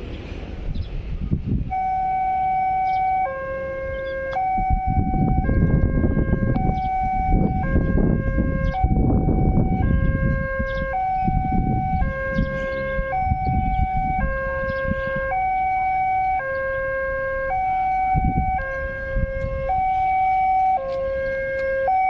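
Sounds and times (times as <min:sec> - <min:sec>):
two-tone crossing warning siren: 0:01.1 - 0:22.0.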